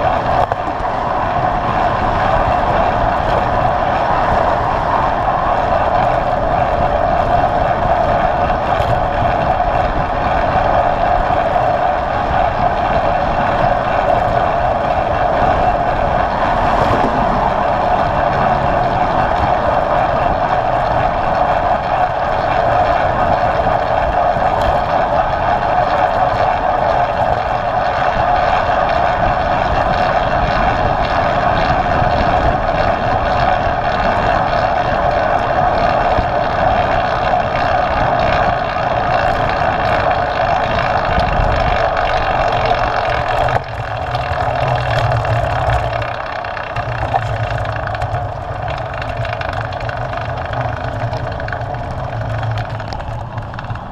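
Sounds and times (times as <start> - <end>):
bicycle road noise: 0.0 - 53.9
wind rush: 0.0 - 53.9.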